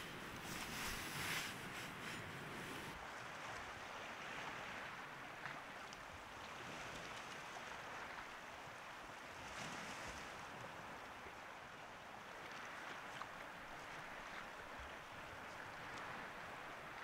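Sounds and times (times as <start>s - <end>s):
small waves washing on shore: 0.0s - 17.0s.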